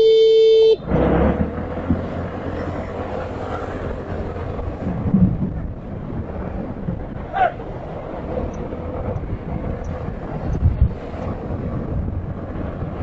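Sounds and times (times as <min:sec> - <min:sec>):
road traffic rumble and hiss: 0:00.0 - 0:13.0.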